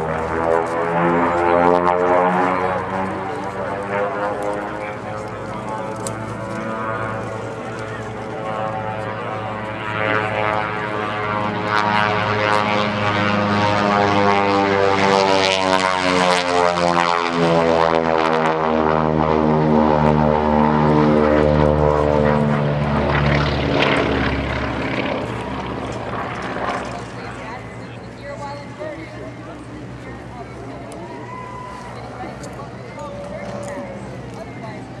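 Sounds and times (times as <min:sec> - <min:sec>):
propeller plane passing low: 0:00.0 - 0:35.0.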